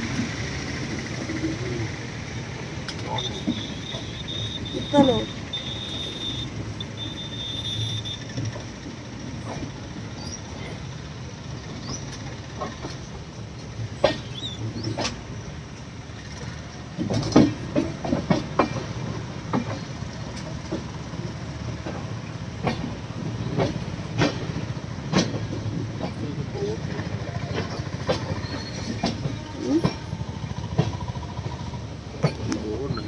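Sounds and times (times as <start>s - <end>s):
train coach low rumble: 0.0s - 33.0s
wheels clicking over rail joints: 0.0s - 33.0s.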